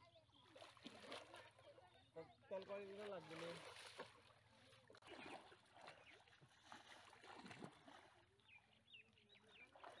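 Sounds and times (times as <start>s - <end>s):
water sloshing and splashing: 0.2s - 8.8s, 9.4s - 10.0s.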